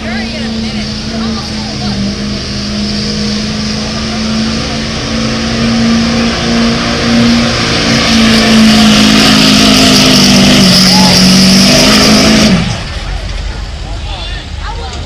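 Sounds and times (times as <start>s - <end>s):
vehicle engine at full throttle: 0.0s - 15.0s.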